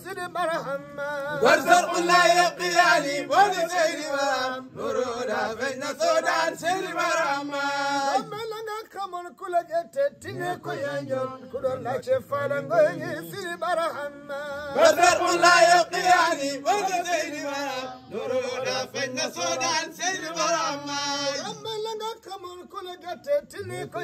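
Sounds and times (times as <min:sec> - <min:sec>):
men chanting devotional song: 0:00.0 - 0:24.0.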